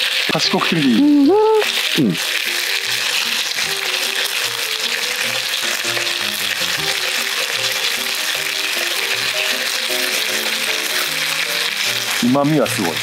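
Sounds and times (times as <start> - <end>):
meat sizzling in a pan: 0.0 - 13.0
plucked melody background music: 0.0 - 13.0.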